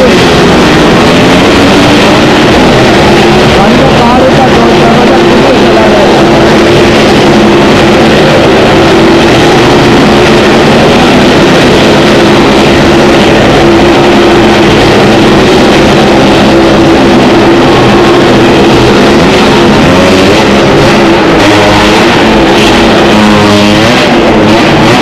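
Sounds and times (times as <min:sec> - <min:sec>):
loud engine-like drone: 0:00.0 - 0:25.0.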